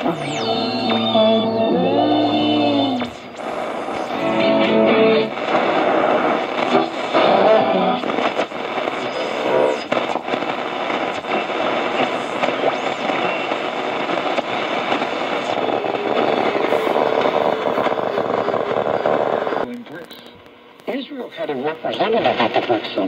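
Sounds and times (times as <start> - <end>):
radio static hiss and crackle: 0.0 - 23.0
radio station snatches: 0.0 - 23.0.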